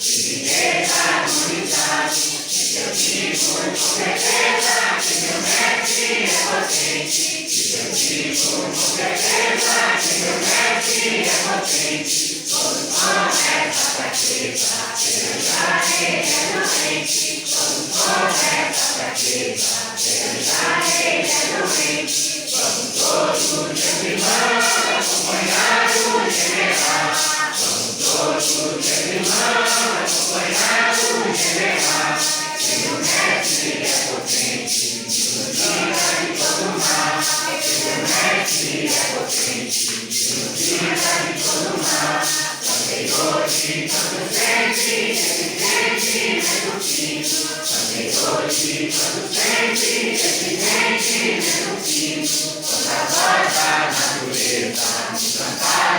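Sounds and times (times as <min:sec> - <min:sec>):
group singing a hymn: 0:00.0 - 0:55.9
maracas shaking: 0:00.0 - 0:55.9.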